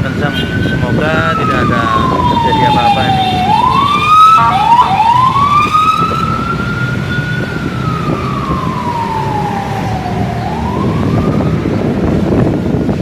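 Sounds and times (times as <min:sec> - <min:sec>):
siren wailing: 0:00.4 - 0:12.2.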